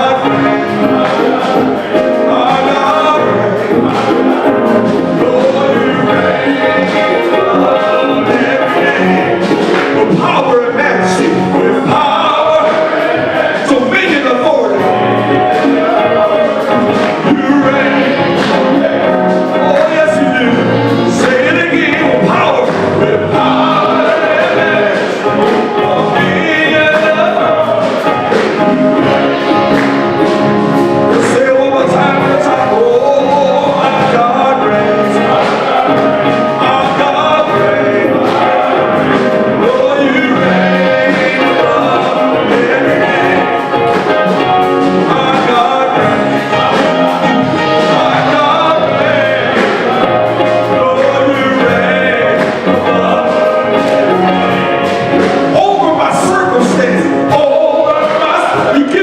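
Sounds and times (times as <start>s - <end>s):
gospel singing with full band: 0.0s - 59.0s.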